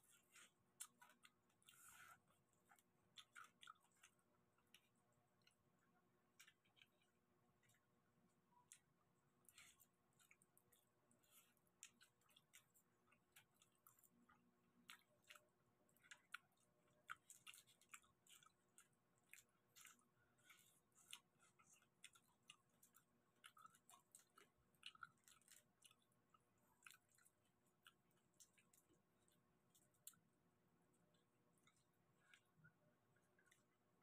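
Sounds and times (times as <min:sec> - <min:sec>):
people chewing: 0:00.0 - 0:34.0.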